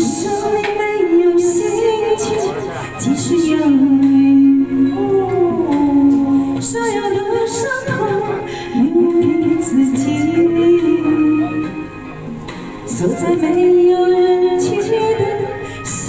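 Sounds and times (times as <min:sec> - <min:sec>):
karaoke backing track: 0:00.0 - 0:16.0
woman singing pop song: 0:00.0 - 0:16.0.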